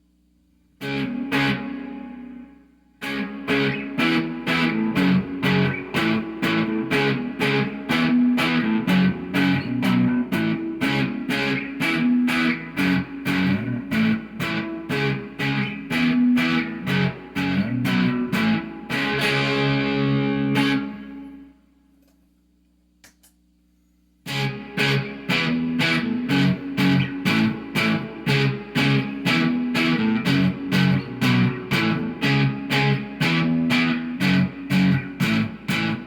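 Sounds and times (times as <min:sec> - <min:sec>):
electric guitar chugging chords: 0:00.8 - 0:21.6, 0:24.2 - 0:36.0.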